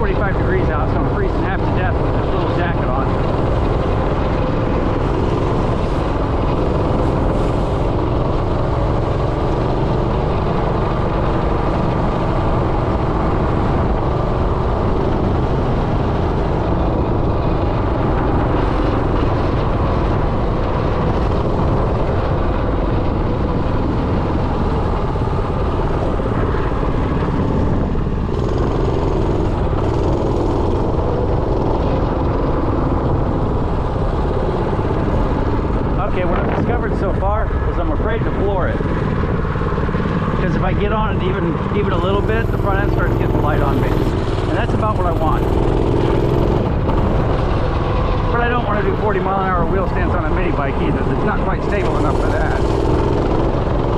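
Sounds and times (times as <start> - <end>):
minibike engine running: 0.0 - 53.9.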